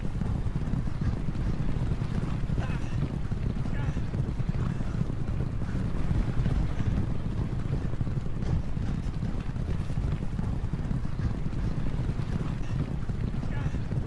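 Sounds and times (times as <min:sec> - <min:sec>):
galloping hooves: 0:00.0 - 0:14.0.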